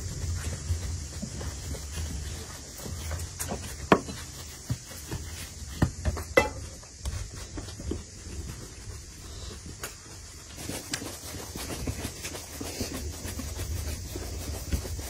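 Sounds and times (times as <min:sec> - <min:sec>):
hands patting bread dough: 0:00.0 - 0:15.0.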